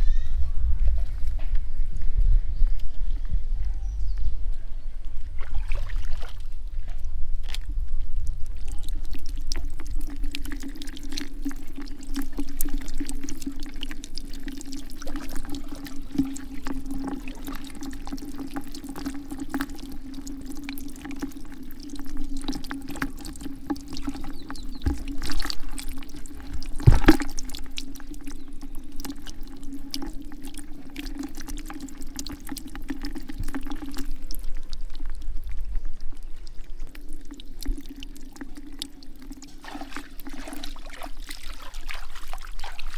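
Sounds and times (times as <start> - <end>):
water pouring and trickling: 5.4 - 6.8, 7.4 - 42.9.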